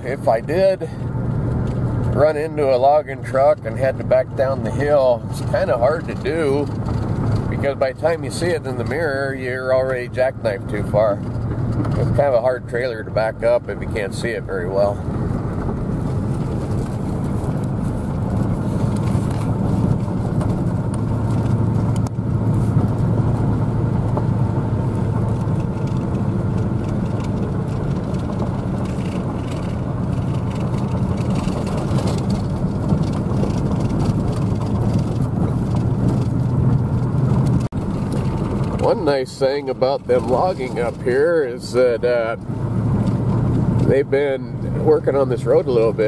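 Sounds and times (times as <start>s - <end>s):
truck engine drone: 0.0s - 46.0s
tyres rumbling on gravel: 0.0s - 46.0s.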